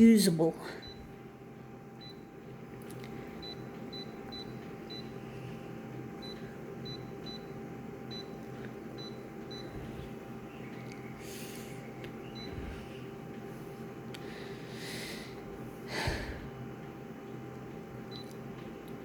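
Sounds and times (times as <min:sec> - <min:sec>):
low hum: 0:00.8 - 0:19.0.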